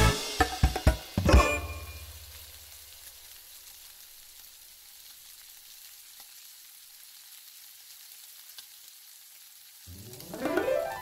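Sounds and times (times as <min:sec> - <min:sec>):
steaks sizzling in frying pan: 0:00.6 - 0:11.0.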